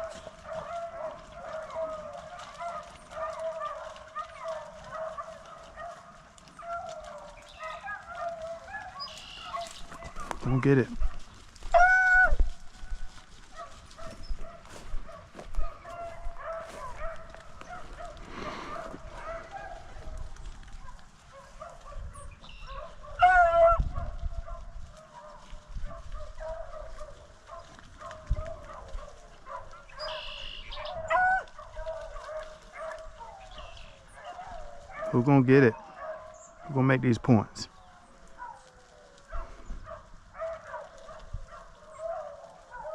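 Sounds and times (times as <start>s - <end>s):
dogs baying: 0.0s - 37.1s, 37.8s - 42.9s.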